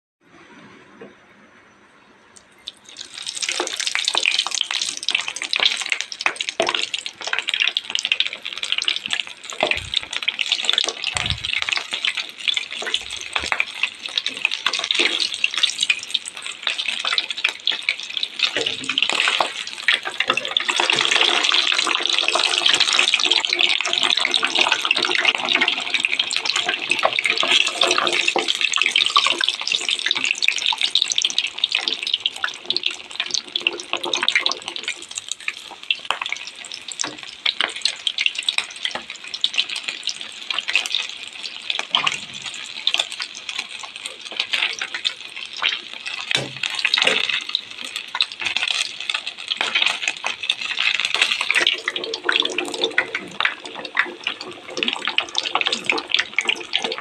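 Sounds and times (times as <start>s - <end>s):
pork sizzling in hot oil: 2.4s - 57.0s.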